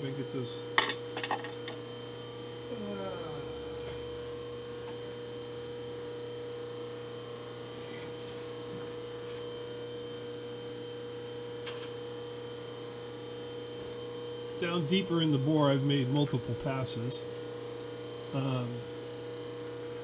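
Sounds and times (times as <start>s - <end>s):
milling machine humming: 0.0s - 20.0s.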